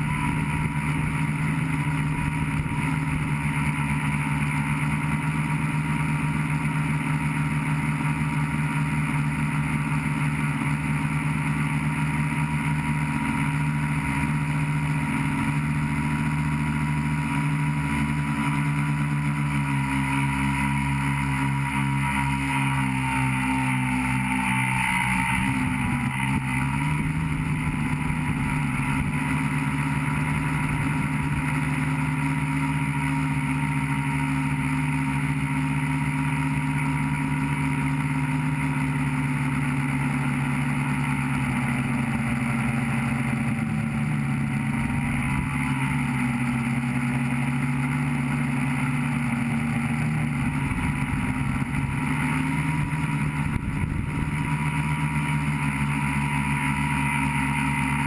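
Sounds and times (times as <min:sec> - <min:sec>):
electric motors and propellers whirring: 0:00.0 - 0:58.0.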